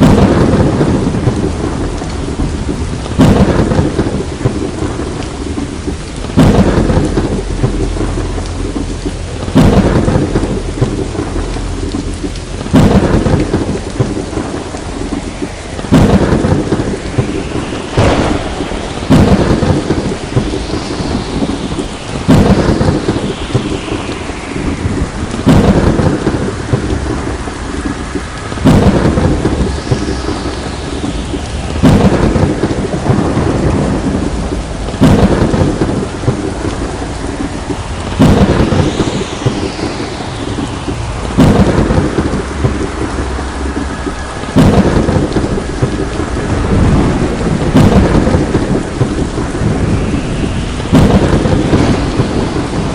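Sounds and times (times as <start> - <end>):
heavy rain: 0.0 - 52.9
thunder cracking and rumbling: 0.0 - 52.9.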